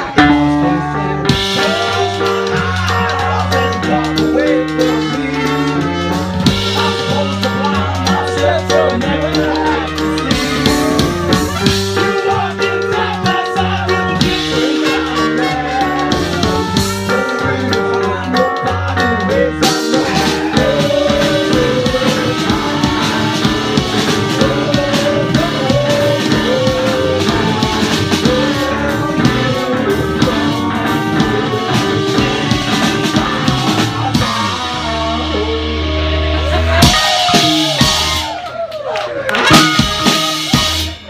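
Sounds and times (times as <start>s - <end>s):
drums hitting steadily: 0.0s - 15.2s, 15.8s - 38.4s, 39.4s - 41.0s
live rock band playing: 0.0s - 38.6s, 39.2s - 41.0s.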